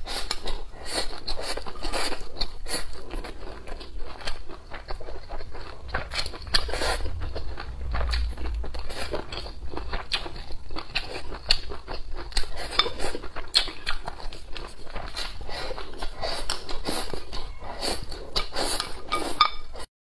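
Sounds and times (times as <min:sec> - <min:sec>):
chewing and mouth sounds: 0:00.0 - 0:19.4.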